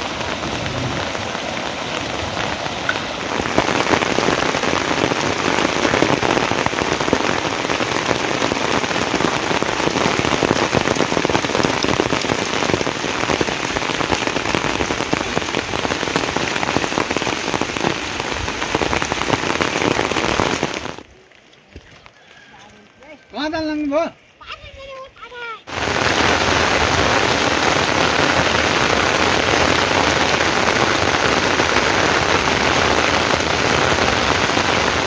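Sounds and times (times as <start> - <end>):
heavy rain: 0.0 - 21.8, 25.7 - 35.0.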